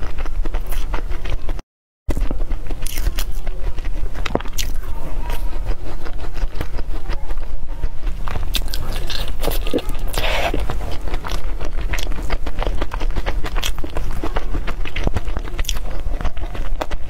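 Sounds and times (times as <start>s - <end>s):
chewing with crunchy bites: 0.0s - 17.0s.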